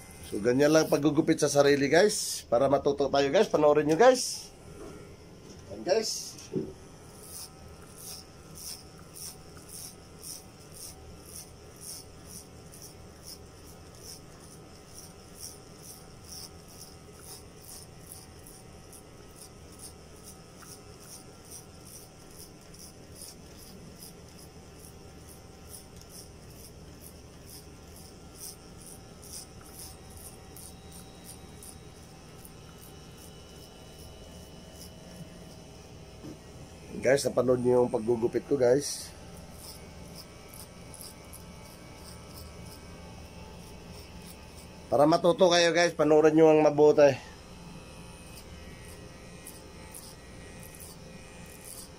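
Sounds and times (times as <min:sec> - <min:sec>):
hair clipper rasping through hair: 0:00.0 - 0:02.3, 0:05.8 - 0:51.9
hair clipper hum: 0:00.0 - 0:51.9.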